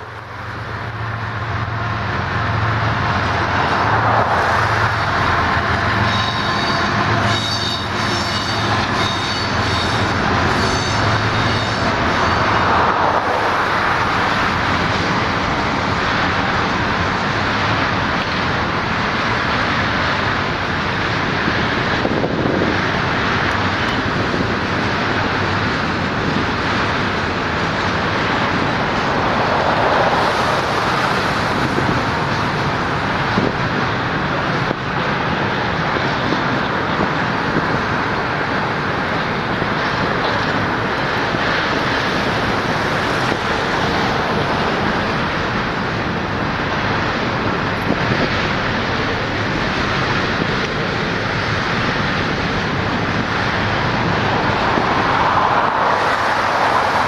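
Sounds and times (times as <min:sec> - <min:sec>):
road traffic passing: 0:00.0 - 0:57.0
train wheels rolling on rails: 0:00.0 - 0:57.0.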